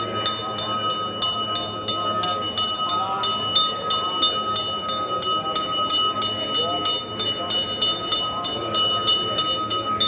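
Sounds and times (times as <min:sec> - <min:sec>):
temple bell ringing: 0:00.0 - 0:10.0.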